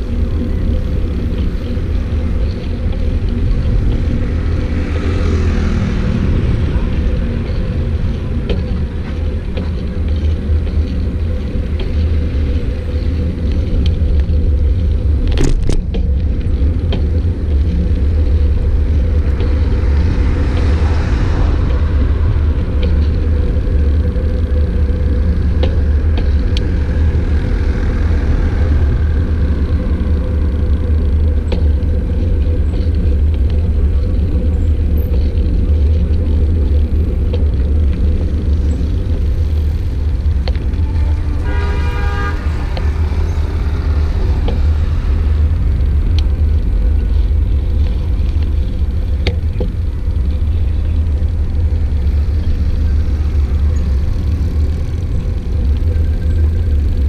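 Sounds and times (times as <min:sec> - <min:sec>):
road noise: 0:00.0 - 0:57.0
wind buffeting microphone: 0:00.0 - 0:57.0.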